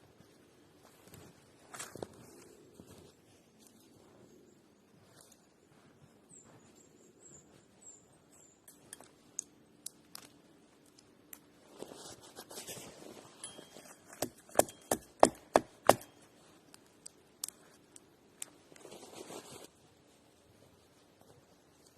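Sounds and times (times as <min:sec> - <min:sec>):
rustle: 0:00.0 - 0:14.6, 0:15.9 - 0:21.9.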